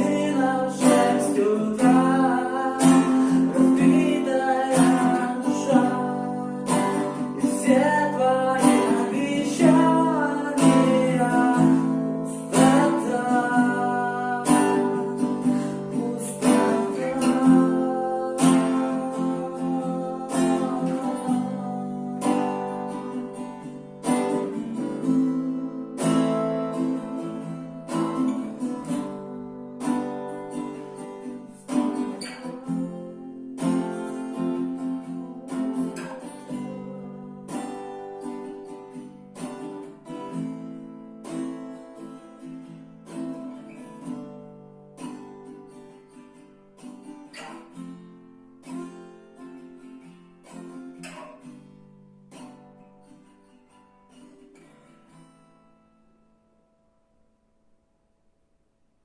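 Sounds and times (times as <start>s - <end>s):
acoustic guitar strumming: 0.0s - 58.4s.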